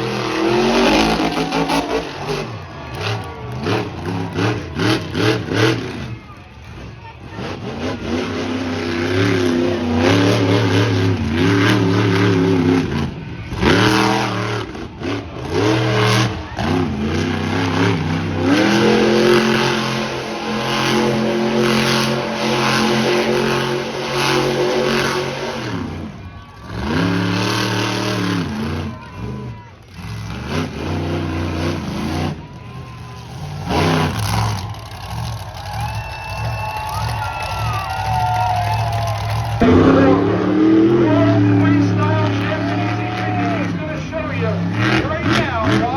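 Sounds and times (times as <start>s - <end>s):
truck engine revving hard: 0.0s - 45.9s.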